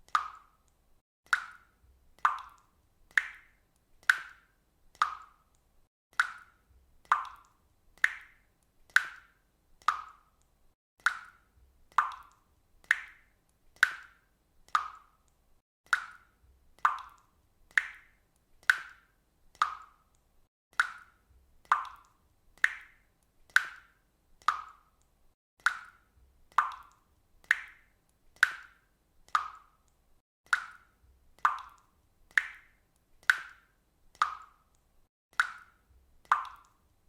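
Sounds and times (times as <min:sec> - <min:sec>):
water drops plopping into water: 0:00.0 - 0:36.9.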